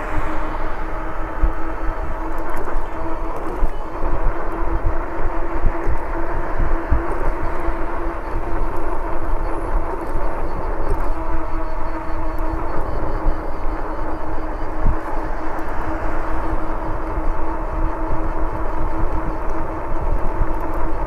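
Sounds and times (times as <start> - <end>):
e-bike motor hum: 0.0 - 21.0
wind rumbling on microphone: 0.0 - 21.0.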